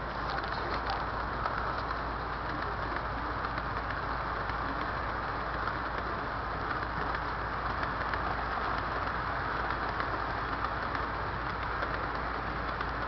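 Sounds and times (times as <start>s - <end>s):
model train wheels on rail: 0.0s - 13.0s.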